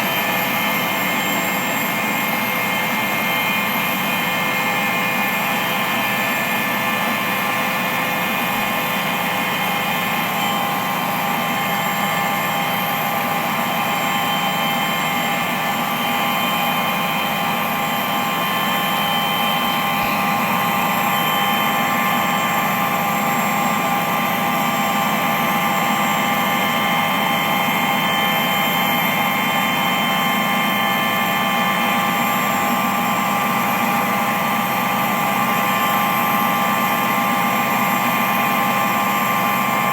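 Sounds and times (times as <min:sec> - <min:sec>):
engine drone with whining tones: 0:00.0 - 0:39.9.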